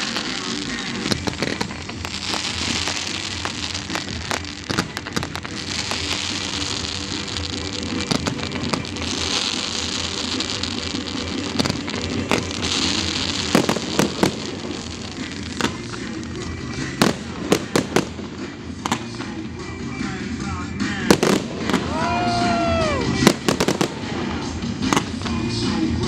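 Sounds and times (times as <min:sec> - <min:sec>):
hiss of firework sparks: 0:00.0 - 0:19.4, 0:20.8 - 0:26.0
firework bangs: 0:00.0 - 0:26.0.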